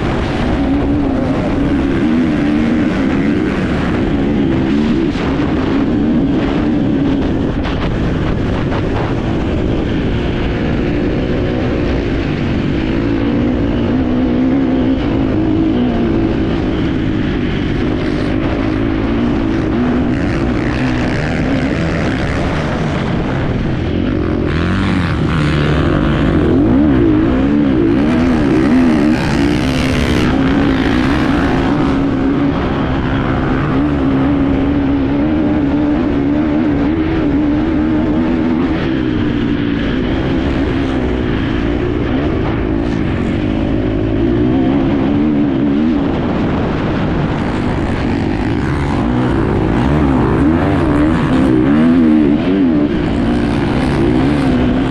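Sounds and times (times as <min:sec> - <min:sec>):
motorcycle engine running hard: 0:00.0 - 0:54.9
riding noise: 0:00.0 - 0:54.9
rushing wind: 0:00.0 - 0:54.9.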